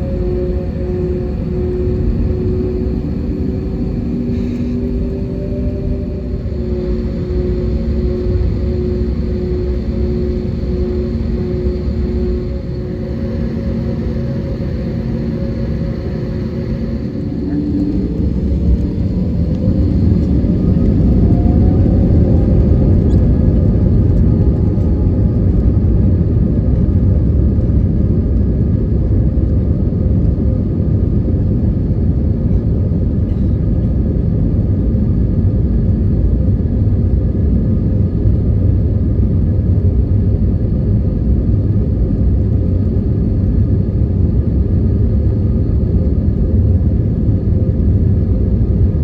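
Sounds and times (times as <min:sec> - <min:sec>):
airplane engines low rumble: 0:00.0 - 0:49.0
faint steady hums: 0:00.0 - 0:49.0.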